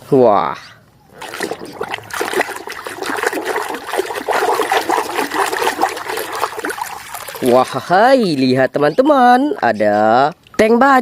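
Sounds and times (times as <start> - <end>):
water trickling and splashing: 1.1 - 11.0.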